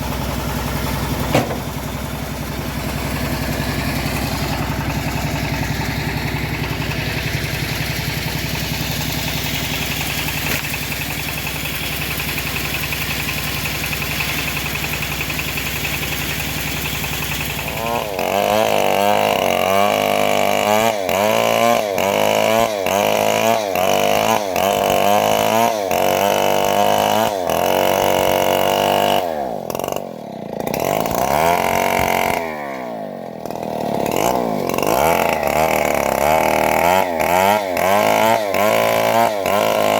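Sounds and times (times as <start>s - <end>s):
bandsaw mill engine running: 0.0s - 39.9s.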